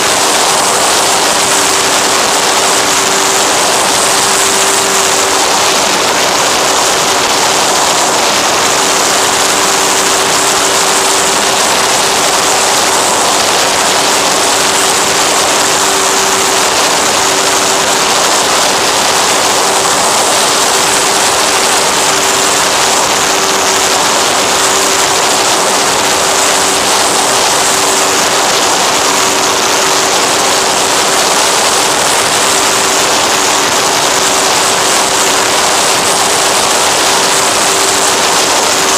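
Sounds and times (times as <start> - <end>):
electric motor and propeller hum: 0.0 - 38.9
rushing airflow noise: 0.0 - 38.9.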